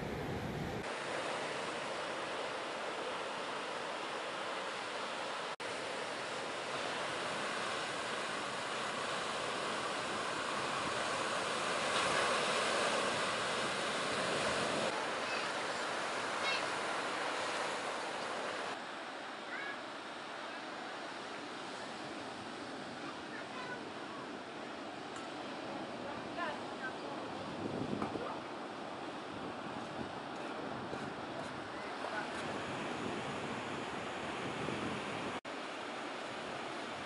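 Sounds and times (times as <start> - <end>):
ocean waves breaking: 0.0 - 37.0.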